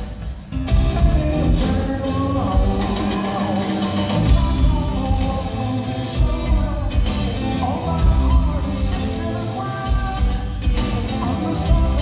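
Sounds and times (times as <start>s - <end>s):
bass guitar: 0.0s - 12.0s
drum kit: 0.0s - 12.0s
electric guitar: 0.0s - 12.0s
man singing lead vocal: 0.6s - 12.0s.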